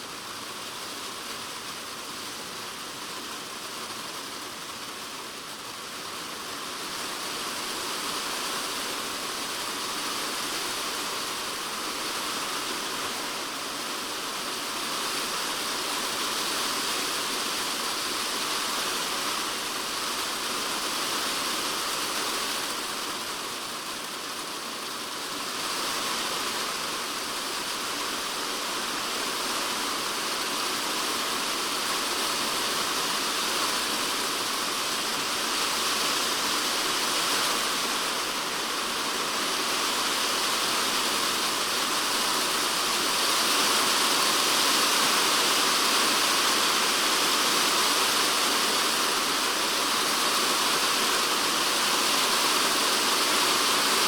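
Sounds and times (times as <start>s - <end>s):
heavy rain on a plastic roof: 0.0s - 54.0s.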